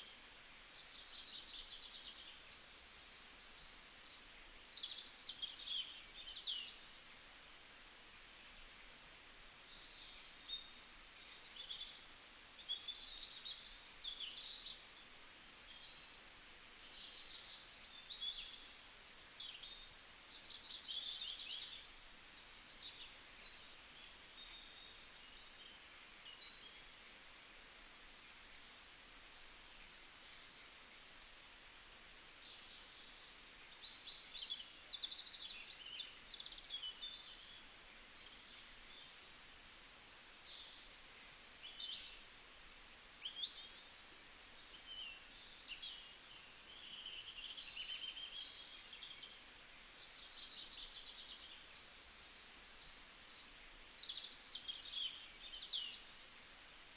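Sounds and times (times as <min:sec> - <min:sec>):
faint steady hiss: 0:00.0 - 0:56.9.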